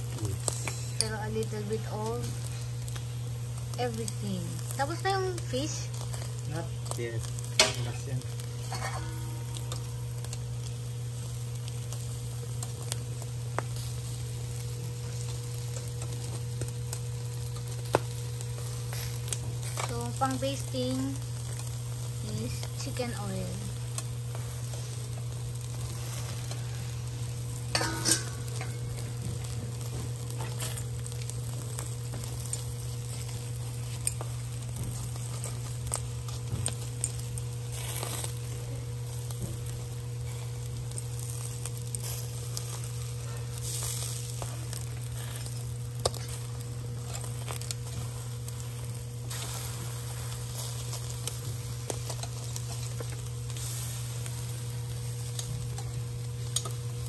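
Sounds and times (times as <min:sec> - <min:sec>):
fat crackling and popping: 0:00.0 - 0:57.0
low hum: 0:00.0 - 0:57.0
meat sizzling on a grill: 0:00.0 - 0:57.0.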